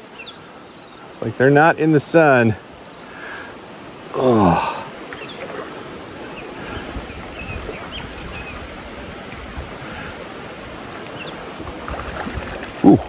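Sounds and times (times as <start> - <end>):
stream rushing over rocks: 1.0 - 13.0.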